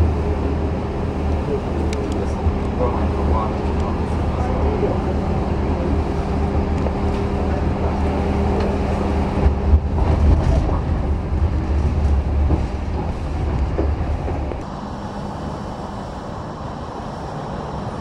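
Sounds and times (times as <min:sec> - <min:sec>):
tram rumbling on track: 0:00.0 - 0:18.0.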